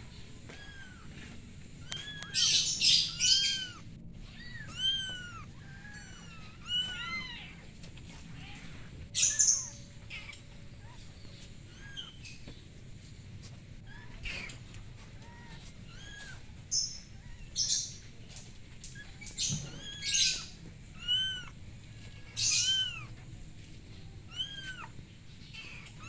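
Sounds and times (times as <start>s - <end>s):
kittens mewing: 0.2s - 12.3s, 13.8s - 23.4s, 24.1s - 26.0s.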